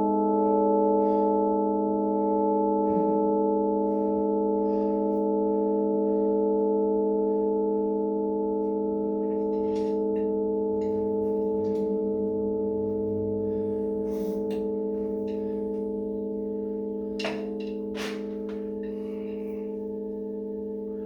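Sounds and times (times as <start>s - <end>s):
held chord of pure tones: 0.0s - 21.0s.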